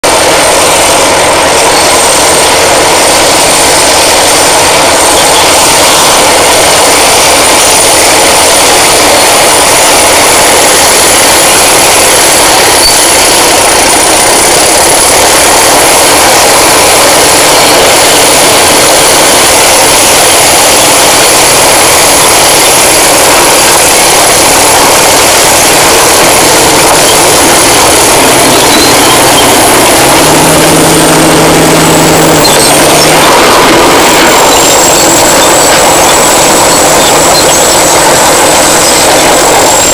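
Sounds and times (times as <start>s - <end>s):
bulldozer diesel engine running: 0.0s - 39.9s
turbocharger whistle: 0.0s - 39.9s.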